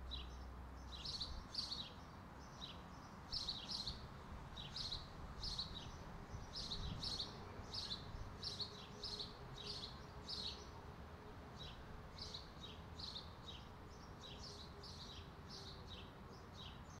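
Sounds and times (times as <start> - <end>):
songbird chirping: 0.0 - 10.9, 11.5 - 17.0.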